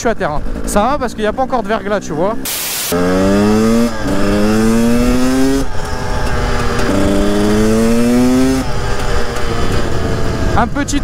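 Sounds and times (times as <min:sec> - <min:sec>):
two-stroke engine accelerating: 0:00.0 - 0:11.0.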